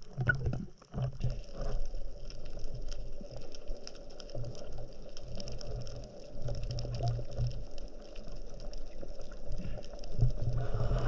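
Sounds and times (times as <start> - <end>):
crackle of small clicks: 0.0 - 11.0
underwater rumble of moving water: 0.0 - 11.0.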